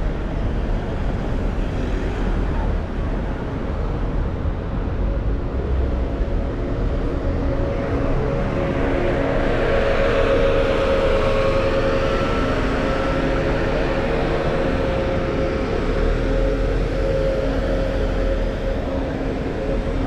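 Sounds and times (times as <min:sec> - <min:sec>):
bus engine hum: 0:00.0 - 0:20.0
road traffic noise: 0:00.0 - 0:20.0.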